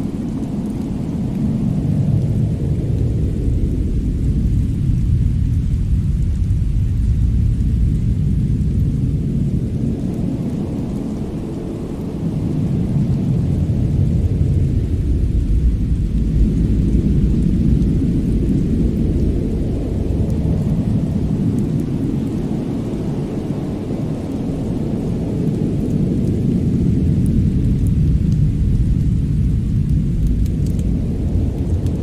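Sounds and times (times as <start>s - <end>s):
deep rumble: 0.0s - 32.0s
fire crackles: 0.0s - 32.0s.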